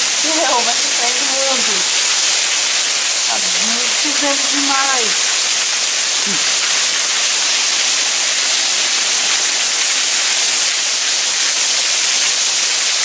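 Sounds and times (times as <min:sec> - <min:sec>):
heavy rain on paving: 0:00.0 - 0:13.0.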